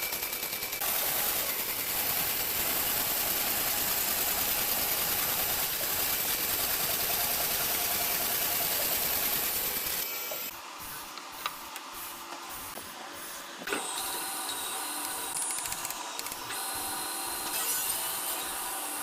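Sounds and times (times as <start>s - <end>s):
power tool buzzing on wood: 0.0s - 11.2s, 13.6s - 19.0s.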